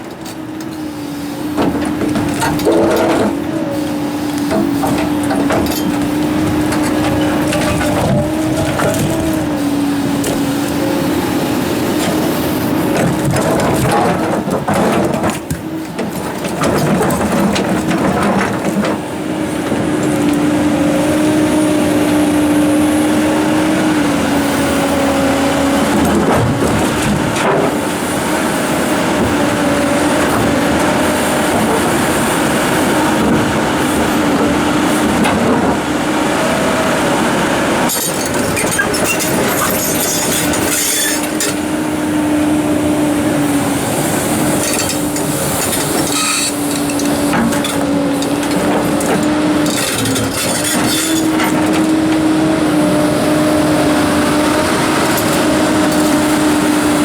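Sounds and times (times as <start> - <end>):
excavator engine and hydraulics whining: 0.0 - 57.0.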